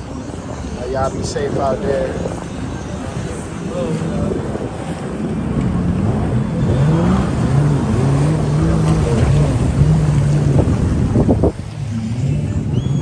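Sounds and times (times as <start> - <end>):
jet ski engine: 0.0 - 13.0
wind on microphone: 0.0 - 13.0.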